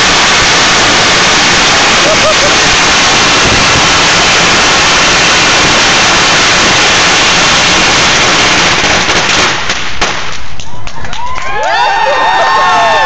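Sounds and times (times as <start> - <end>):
firework fountain hissing: 0.0 - 10.6.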